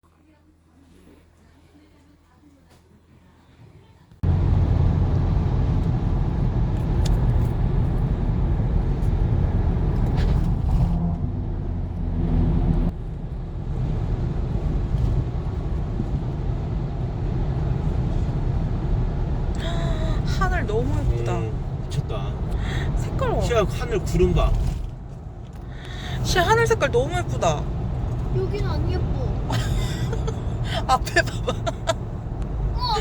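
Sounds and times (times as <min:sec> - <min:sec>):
car engine and road noise: 0:04.2 - 0:33.0.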